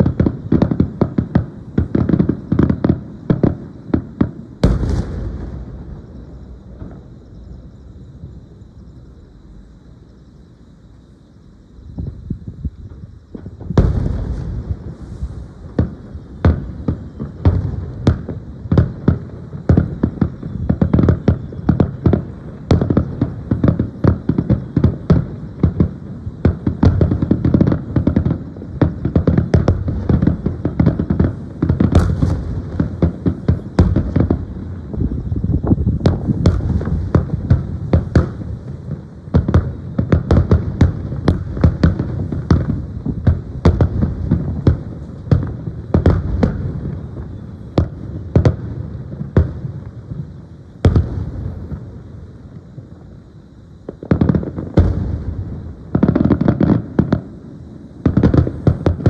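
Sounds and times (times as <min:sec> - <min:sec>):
fireworks sharp bangs: 0:00.0 - 0:09.7, 0:12.0 - 0:59.0
rumble of firework booms: 0:00.0 - 0:10.2, 0:11.9 - 0:59.0.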